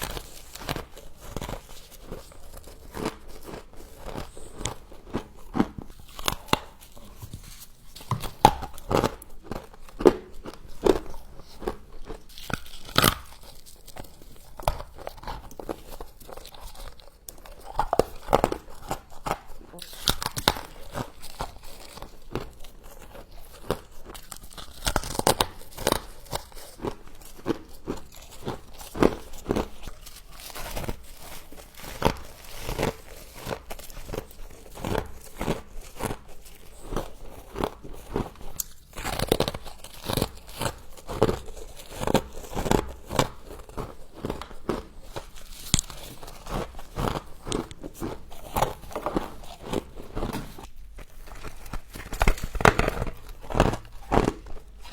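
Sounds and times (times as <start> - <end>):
frost being chewed crunching: 0.0 - 54.9.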